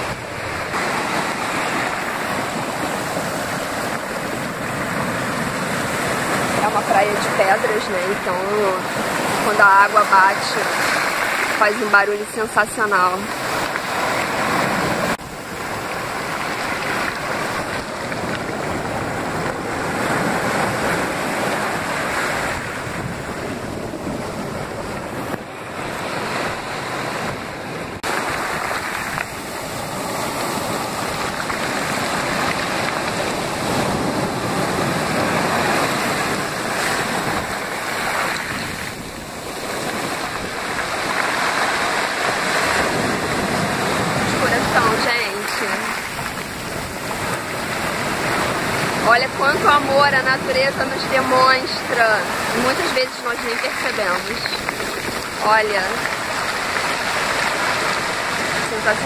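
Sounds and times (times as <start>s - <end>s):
ocean surf over rocks: 0.0s - 59.0s.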